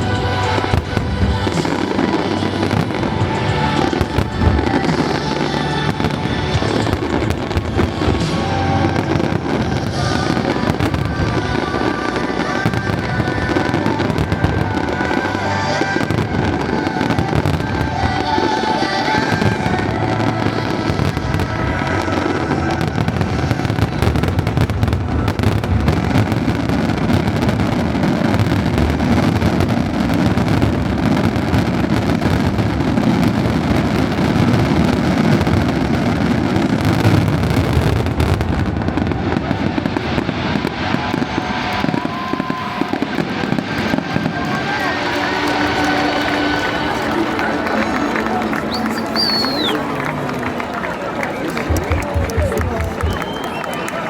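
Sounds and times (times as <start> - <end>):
fireworks bursting: 0.0 - 54.0
music playing: 0.0 - 54.0.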